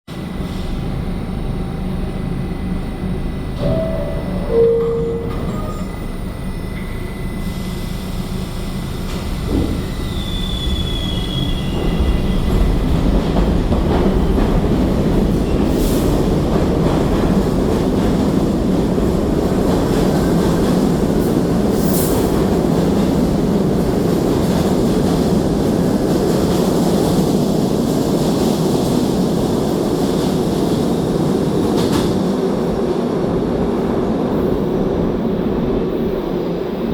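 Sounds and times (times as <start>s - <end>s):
subway train wheels rumbling: 0.1s - 36.9s.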